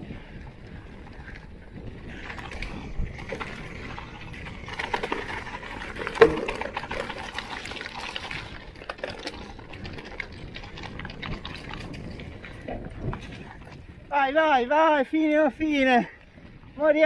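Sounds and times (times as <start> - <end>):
crunching over rocky trail: 0.0 - 14.2.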